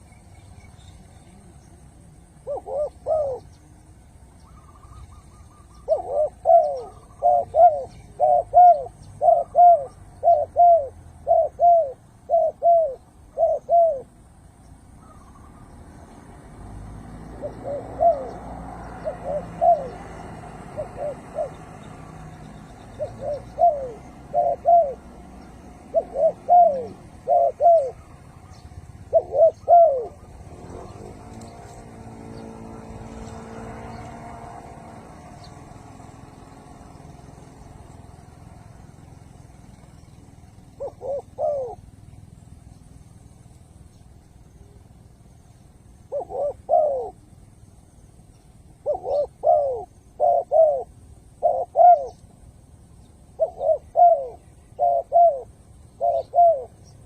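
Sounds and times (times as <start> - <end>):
low engine-like hum: 0.0 - 57.0
dove cooing: 0.9 - 14.2, 14.9 - 42.4, 45.8 - 47.5, 48.7 - 52.5, 53.3 - 57.0.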